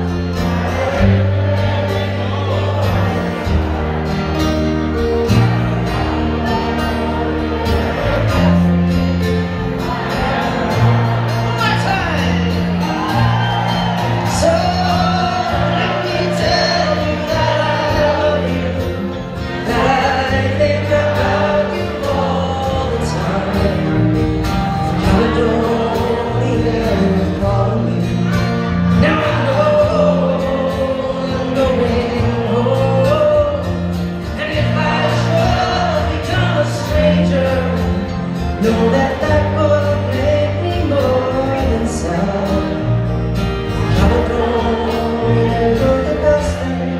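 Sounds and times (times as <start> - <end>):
voices singing: 0.0 - 11.6, 12.3 - 46.9
bass notes: 0.0 - 46.9
strummed acoustic guitars: 0.0 - 46.9.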